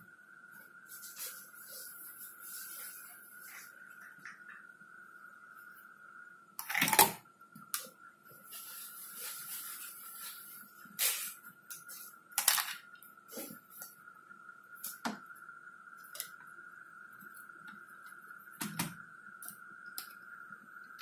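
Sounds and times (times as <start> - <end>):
faint high whine: 0.0 - 21.0.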